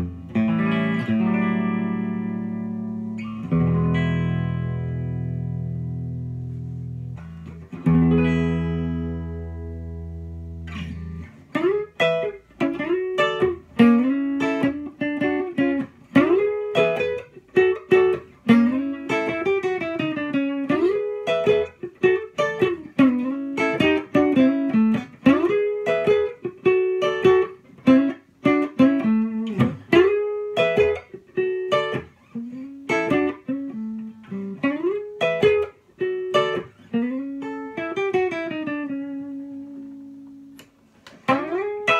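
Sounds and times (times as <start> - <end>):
electric guitar playing: 0.0 - 41.9.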